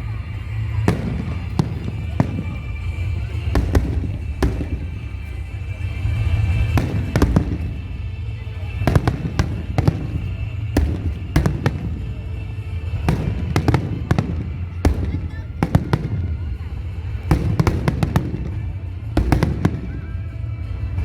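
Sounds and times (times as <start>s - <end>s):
firework bangs and crackles: 0.0s - 21.0s
rumble of bursting fireworks: 0.0s - 21.0s.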